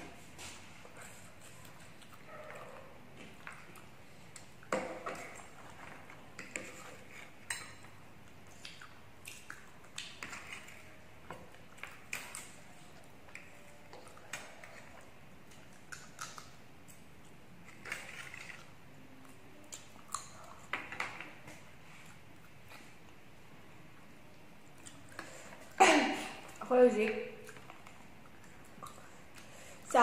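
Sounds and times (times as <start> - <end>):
chewing: 0.9 - 20.8, 24.0 - 25.8, 27.4 - 29.9.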